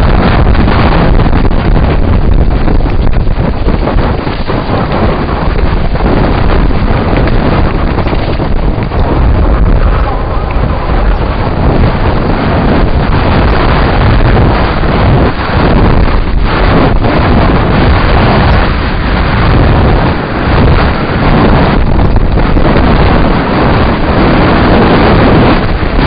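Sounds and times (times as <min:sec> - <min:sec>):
tyres rumbling on rough ground: 0:00.0 - 0:26.0
wind rushing over microphone: 0:00.0 - 0:26.0.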